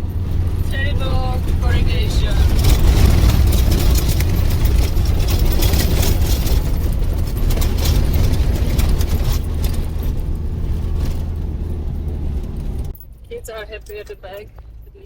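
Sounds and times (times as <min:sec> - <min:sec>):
truck clattering and rattling: 0:00.0 - 0:15.0
truck engine and road rumble: 0:00.0 - 0:15.0.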